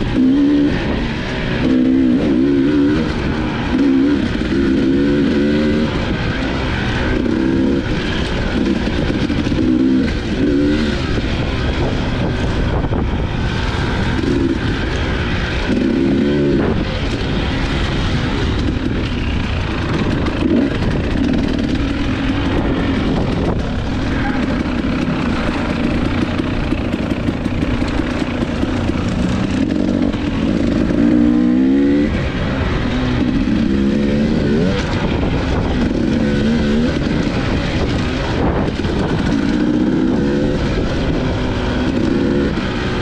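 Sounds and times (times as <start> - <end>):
dirt bike engine revving: 0.0 - 43.0
ground noise: 0.0 - 43.0.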